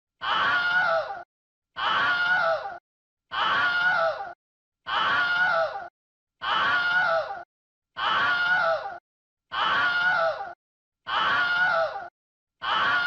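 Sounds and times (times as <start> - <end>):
person screaming: 0.2 - 1.2, 1.8 - 7.4, 8.0 - 13.0.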